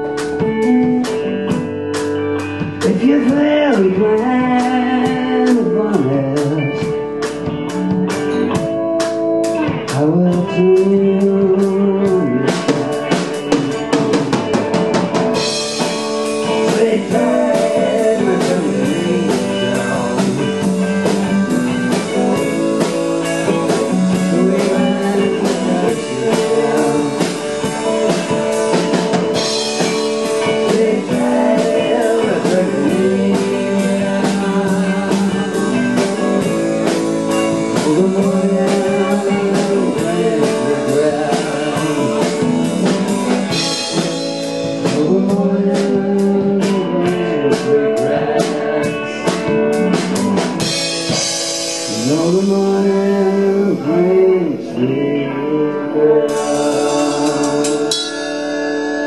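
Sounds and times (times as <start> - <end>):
drum kit with cymbals: 0.0 - 53.4, 56.3 - 59.0
blues-rock band playing: 0.0 - 59.0
electric guitar lead bending: 0.0 - 59.0.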